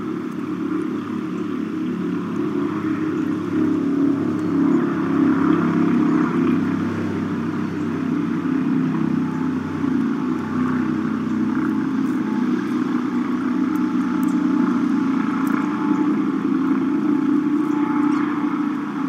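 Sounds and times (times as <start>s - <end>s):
large engine droning: 0.0s - 19.0s.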